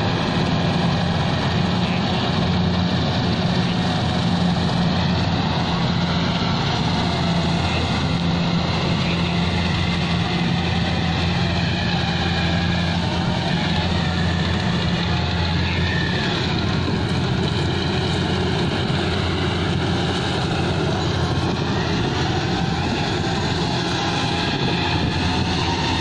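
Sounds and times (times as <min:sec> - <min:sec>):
harvester engine humming: 0:00.0 - 0:26.0.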